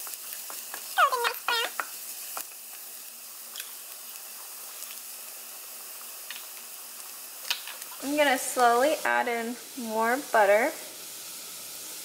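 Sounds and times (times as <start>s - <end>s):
garlic sizzling in butter: 0.0s - 12.0s.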